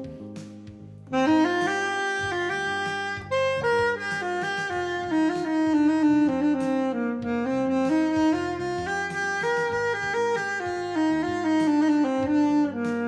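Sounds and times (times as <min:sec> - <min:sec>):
instrumental music with bass line: 0:00.0 - 0:13.0.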